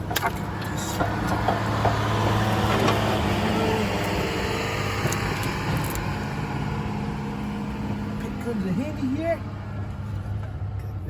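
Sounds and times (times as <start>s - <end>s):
engine-like hum: 0.0s - 11.0s.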